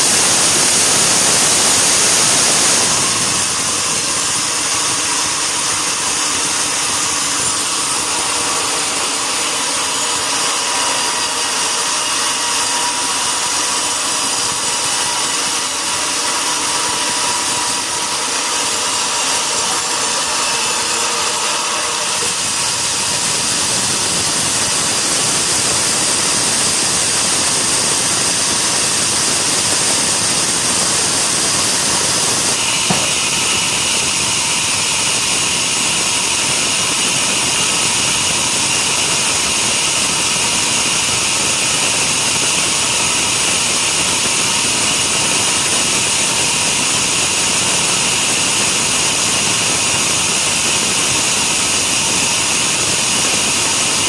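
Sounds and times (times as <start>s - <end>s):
sawmill saw hissing and whining: 0.0s - 54.0s.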